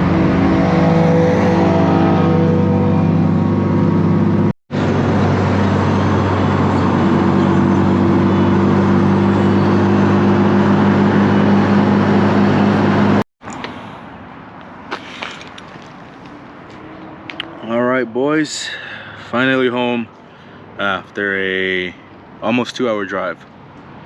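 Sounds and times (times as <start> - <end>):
car engine drone: 0.0 - 19.5
road noise: 0.0 - 24.0.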